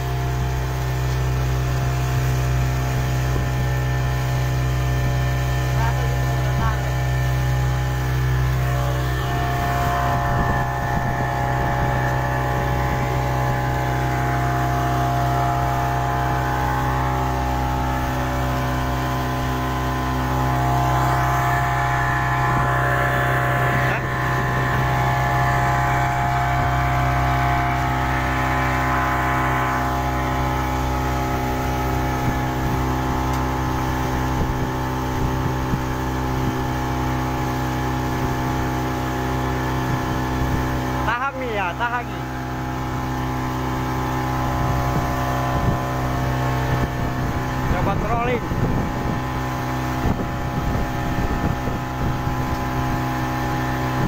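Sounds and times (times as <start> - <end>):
outboard motor running: 0.0 - 54.0
water rushing under boat: 0.0 - 54.0.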